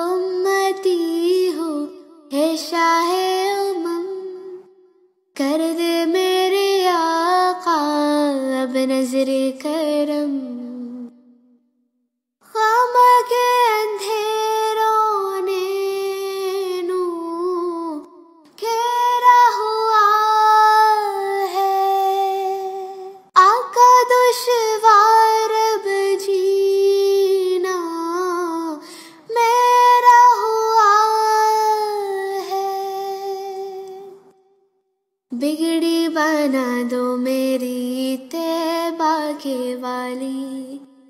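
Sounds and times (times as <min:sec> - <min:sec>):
child singing: 0:00.0 - 0:04.6, 0:05.4 - 0:11.1, 0:12.4 - 0:34.3, 0:35.3 - 0:40.9.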